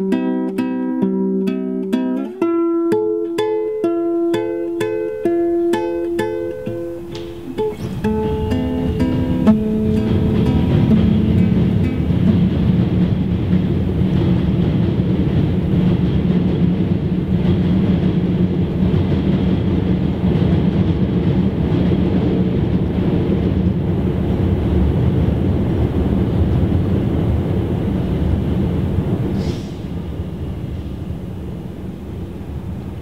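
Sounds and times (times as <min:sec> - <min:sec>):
subway train rumbling on tracks: 0:03.1 - 0:33.0.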